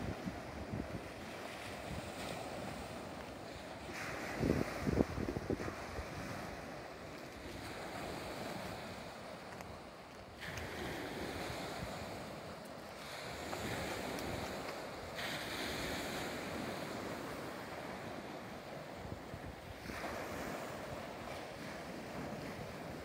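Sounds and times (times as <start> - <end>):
waves on pebble beach: 0.0 - 23.0
wind on microphone: 0.0 - 23.0.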